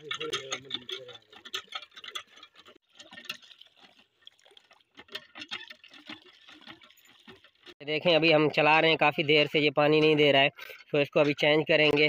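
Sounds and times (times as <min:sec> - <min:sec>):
hand pump clicks and knocks: 0:00.0 - 0:12.0.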